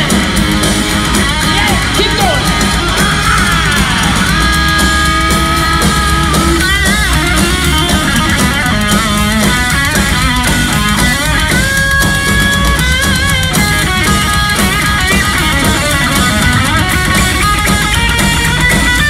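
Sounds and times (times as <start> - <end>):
bass guitar: 0.0 - 19.0
driving drums: 0.0 - 19.0
electric guitar lead: 0.0 - 19.0.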